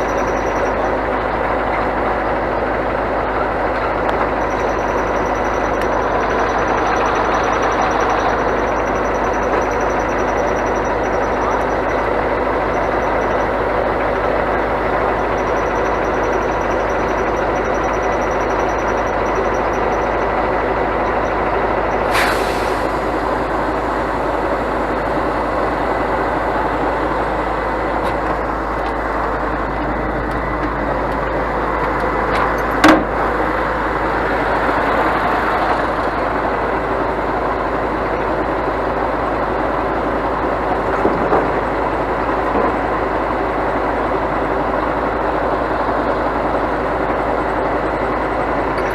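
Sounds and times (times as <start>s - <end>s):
diesel truck engine running: 0.0s - 48.9s.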